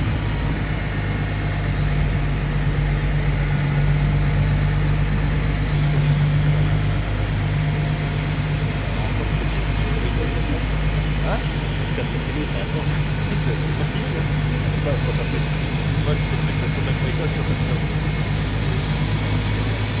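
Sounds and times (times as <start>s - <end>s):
heavy engine humming: 0.0s - 20.0s.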